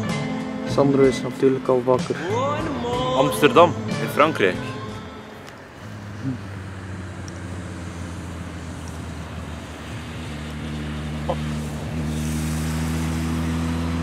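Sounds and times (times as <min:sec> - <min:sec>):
passing vehicle engine: 0:00.0 - 0:14.0.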